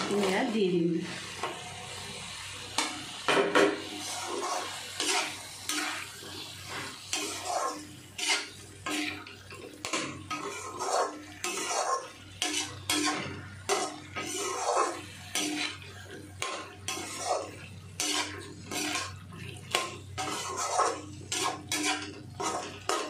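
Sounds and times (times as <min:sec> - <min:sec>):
soft sizzle: 0:00.0 - 0:23.0
metal spatula scraping a pan: 0:02.8 - 0:23.0.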